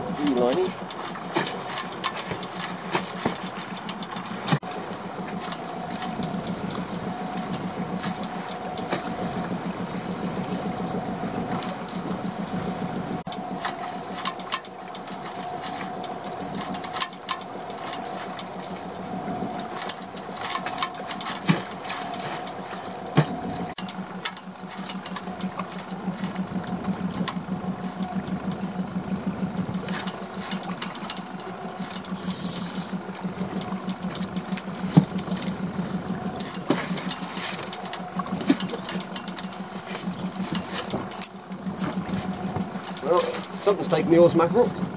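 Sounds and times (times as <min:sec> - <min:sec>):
outboard engine idling: 0:00.0 - 0:44.9.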